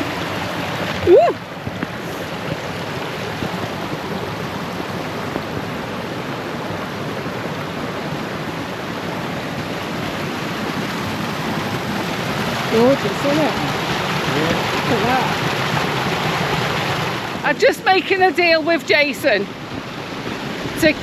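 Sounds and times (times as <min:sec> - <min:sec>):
running stream water: 0:00.0 - 0:21.0.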